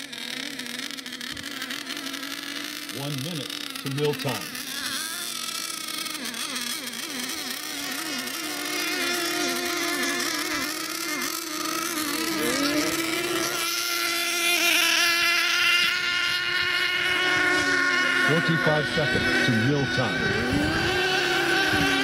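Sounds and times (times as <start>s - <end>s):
model boat engines whining: 0.0s - 22.0s.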